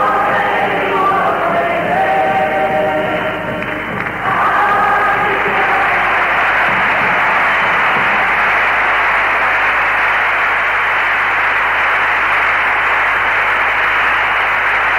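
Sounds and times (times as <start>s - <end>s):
audience applause: 2.6s - 14.9s.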